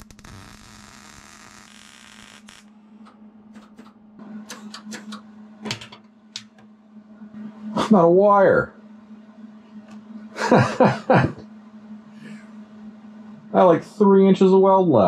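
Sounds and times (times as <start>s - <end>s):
welder humming: 0.0s - 15.0s.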